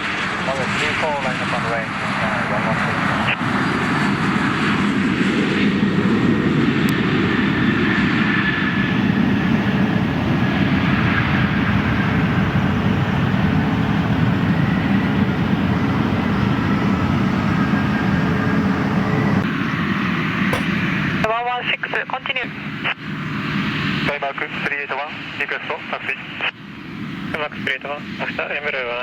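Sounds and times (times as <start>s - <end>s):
airliner engines running: 0.0s - 29.0s.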